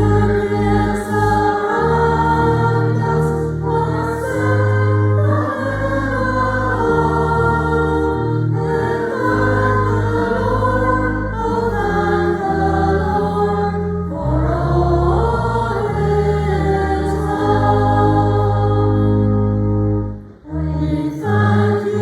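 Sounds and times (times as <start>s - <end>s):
choir singing a hymn: 0.0s - 22.0s
sustained low accompaniment: 0.0s - 22.0s.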